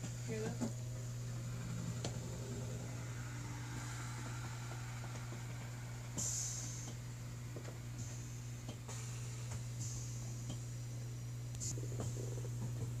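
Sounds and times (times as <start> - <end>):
low hum: 0.0 - 13.0
high hissing noise: 1.0 - 12.8.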